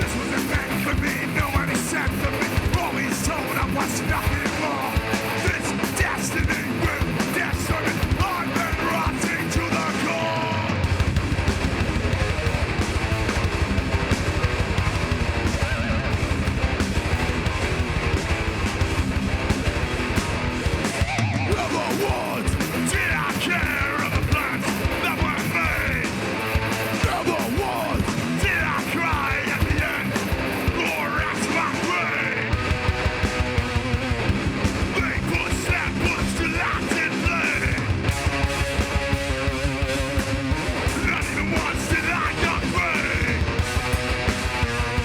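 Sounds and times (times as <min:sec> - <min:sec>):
hardcore band playing live: 0:00.0 - 0:45.0.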